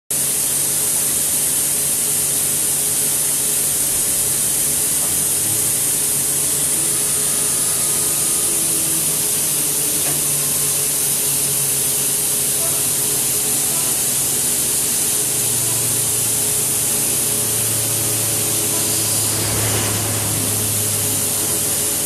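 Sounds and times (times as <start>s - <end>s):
faint motor whine: 0.2s - 22.0s
loud air hiss: 0.2s - 22.0s.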